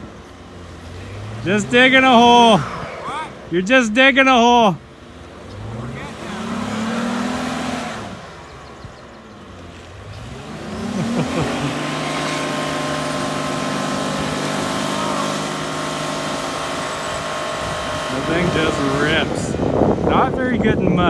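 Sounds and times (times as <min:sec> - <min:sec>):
wheels spinning in mud: 0:00.0 - 0:20.9
car engine revving hard: 0:00.0 - 0:21.0.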